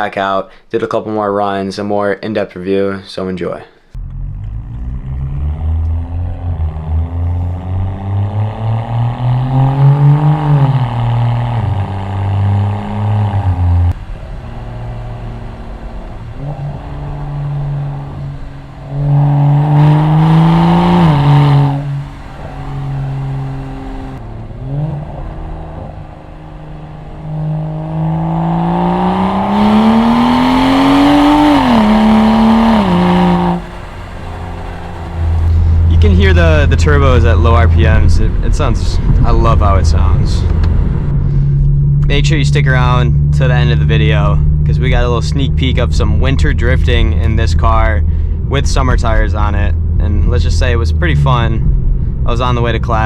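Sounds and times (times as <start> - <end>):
car exhaust accelerating: 4.0 - 53.0.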